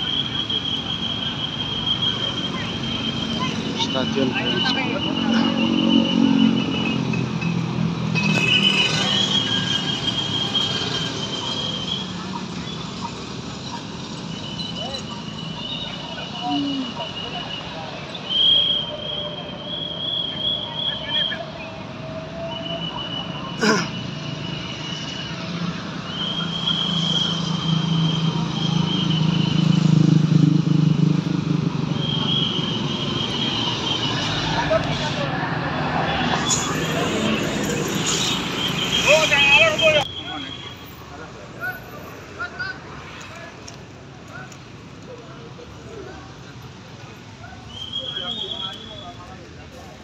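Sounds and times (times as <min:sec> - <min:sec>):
vehicle engines humming: 0:00.0 - 0:50.0.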